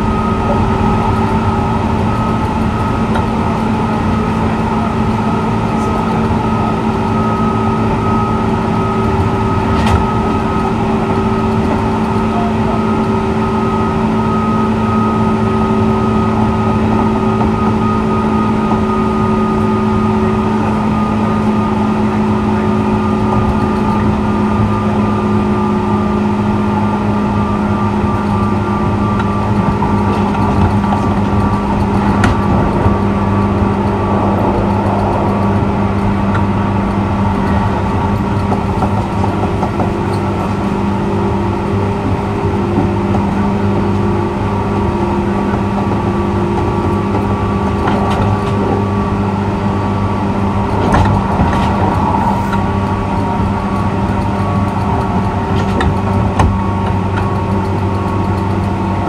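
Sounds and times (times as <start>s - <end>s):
electrical hum: 0.0s - 59.0s
train rumble: 0.0s - 59.0s.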